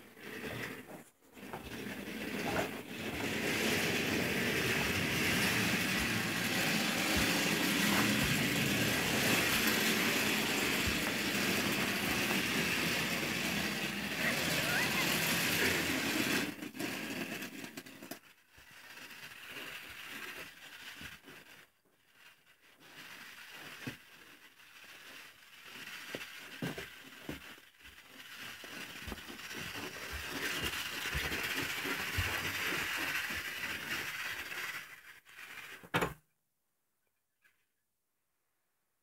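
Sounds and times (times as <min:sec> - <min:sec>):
toy train wheels rolling on floor: 0:00.0 - 0:36.2.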